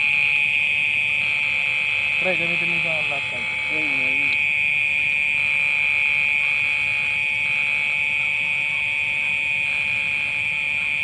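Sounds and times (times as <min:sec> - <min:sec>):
high-pitched electrical buzz: 0:00.0 - 0:11.0.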